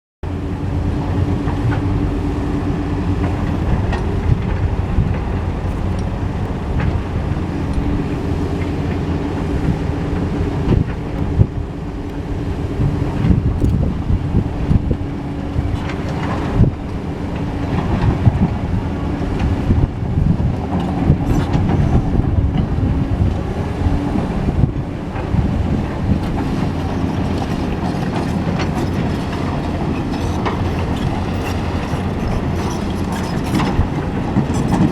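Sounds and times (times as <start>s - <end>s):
excavator diesel engine running: 0.3s - 34.9s.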